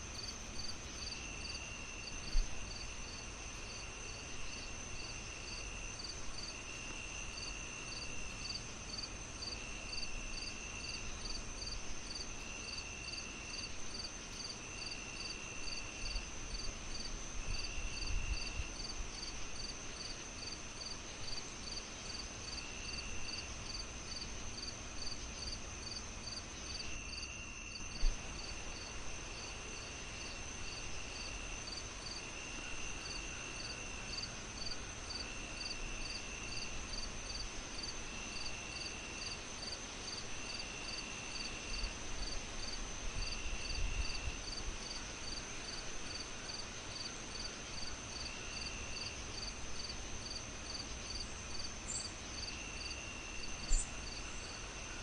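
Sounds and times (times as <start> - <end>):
crickets chirping: 0.0 - 55.0
insect trill: 0.0 - 55.0.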